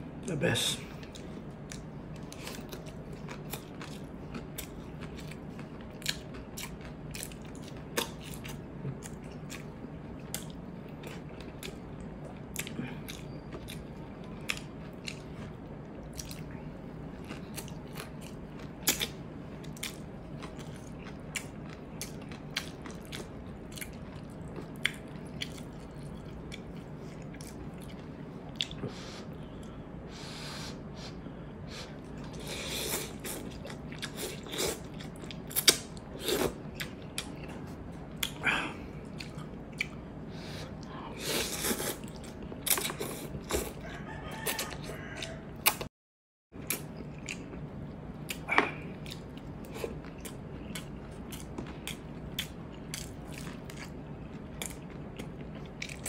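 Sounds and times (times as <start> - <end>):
person chewing: 0.9 - 29.8, 30.6 - 45.9, 46.6 - 56.0.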